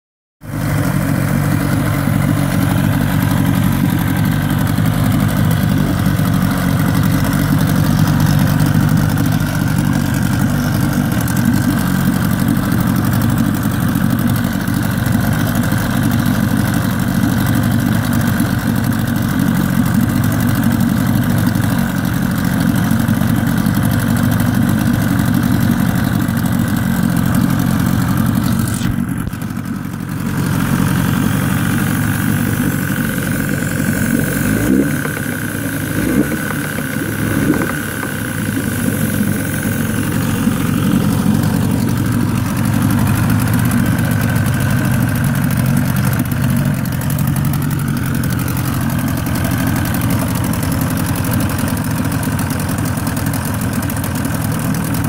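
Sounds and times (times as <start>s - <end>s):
outboard motor running: 0.4s - 55.0s.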